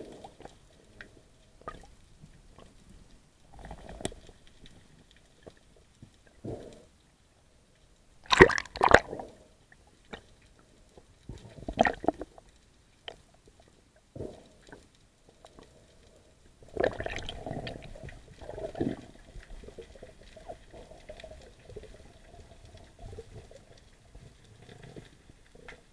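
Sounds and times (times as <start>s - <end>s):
underwater swishing and sloshing: 0.0s - 25.9s.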